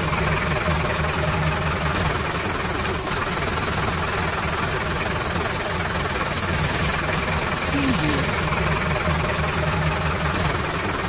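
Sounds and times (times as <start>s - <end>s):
engine-like drone: 0.0s - 11.0s.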